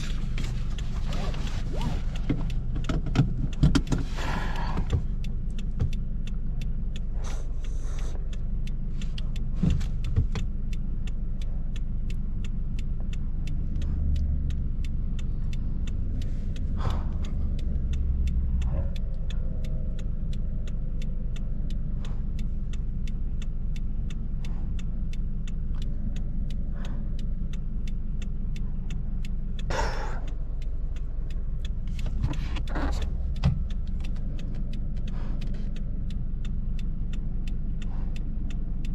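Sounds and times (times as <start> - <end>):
car engine rumble: 0.0 - 38.9
road noise inside car: 0.0 - 38.9.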